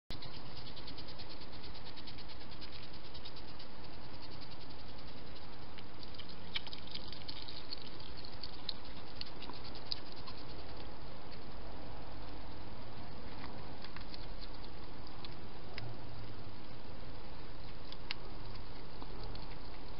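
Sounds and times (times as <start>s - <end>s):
hedgehog clicks and rustles: 0.1s - 11.6s, 12.2s - 15.9s, 17.6s - 19.9s.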